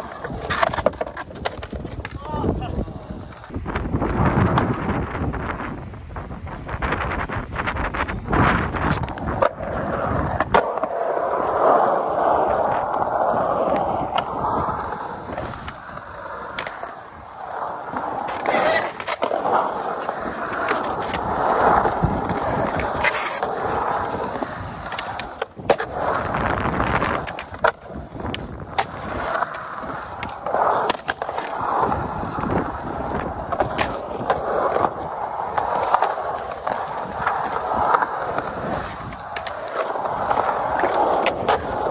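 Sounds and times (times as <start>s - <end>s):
skateboard clacks: 0.0s - 4.9s, 8.7s - 41.9s
skateboard wheels rolling on concrete: 0.0s - 41.9s.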